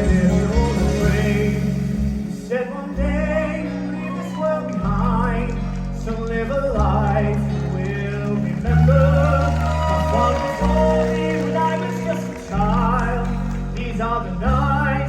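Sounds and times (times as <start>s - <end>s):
bass line: 0.0s - 15.0s
person singing: 0.0s - 15.0s.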